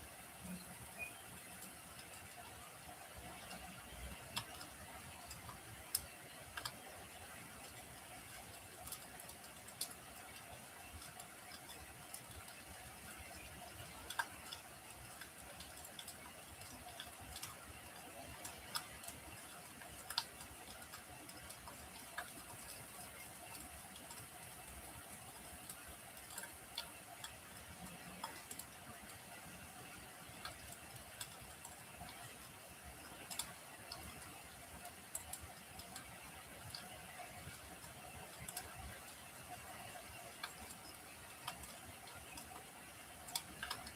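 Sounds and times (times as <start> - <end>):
faint steady hiss: 0.0 - 43.9
wood fire crackling: 0.0 - 43.9.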